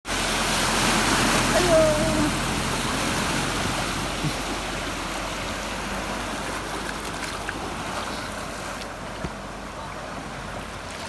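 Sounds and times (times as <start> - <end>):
floodwater rushing: 0.1 - 11.0.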